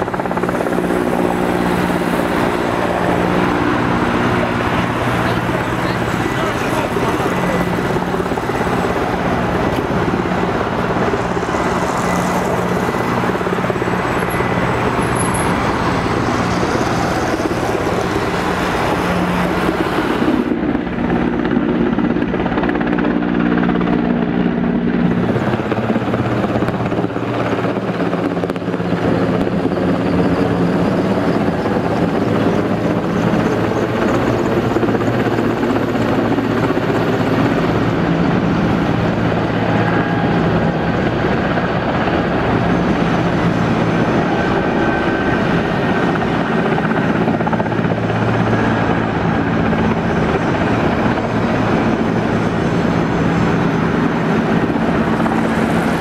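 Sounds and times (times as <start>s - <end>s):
helicopter drone overhead: 0.0s - 56.0s.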